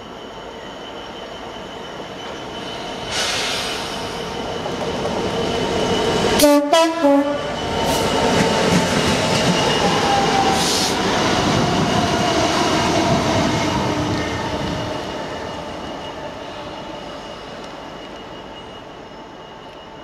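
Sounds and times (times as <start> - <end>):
diesel locomotive passing: 0.0 - 20.0
electric train rushing and whining: 0.0 - 20.0.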